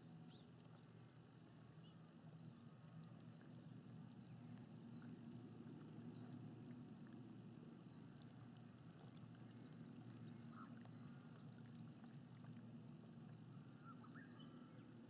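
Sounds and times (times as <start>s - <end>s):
water lapping gently: 0.0s - 15.0s.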